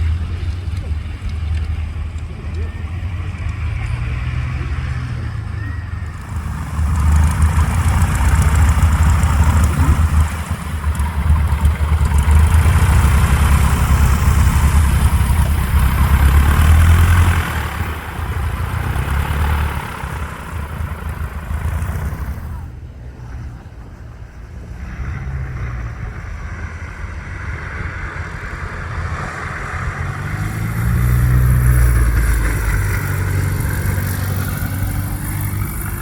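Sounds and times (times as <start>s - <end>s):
propeller aircraft engine droning: 0.0s - 36.0s.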